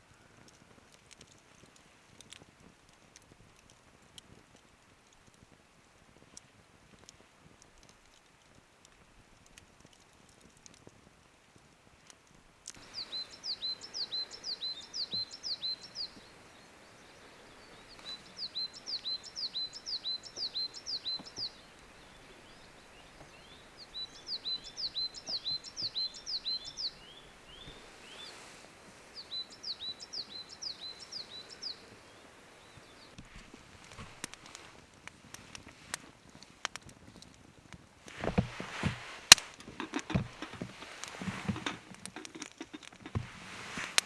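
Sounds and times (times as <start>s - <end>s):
steady background hiss: 0.0s - 44.0s.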